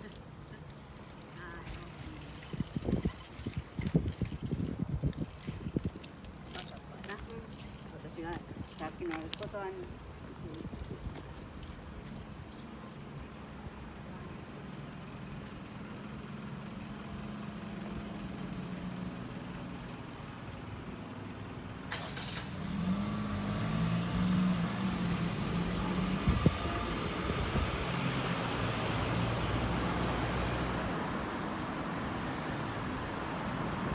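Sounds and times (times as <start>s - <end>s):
vehicle engine humming: 4.0s - 33.9s.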